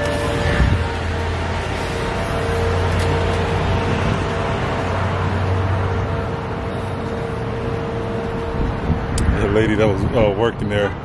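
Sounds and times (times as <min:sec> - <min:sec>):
mechanical hum with low drone: 0:00.0 - 0:11.0.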